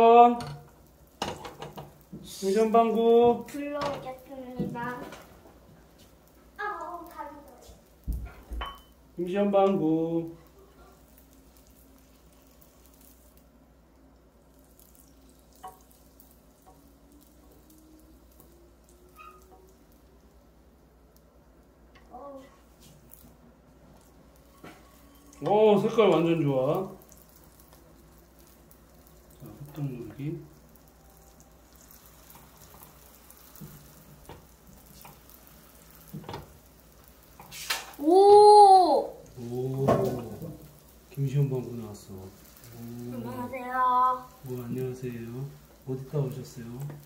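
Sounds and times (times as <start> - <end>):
food sizzling in oil: 0.0 - 47.0.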